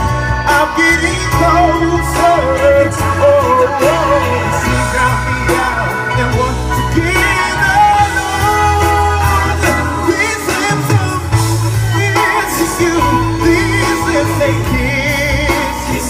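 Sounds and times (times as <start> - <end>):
person singing: 0.0 - 16.0
pop backing track with bass: 0.0 - 16.0.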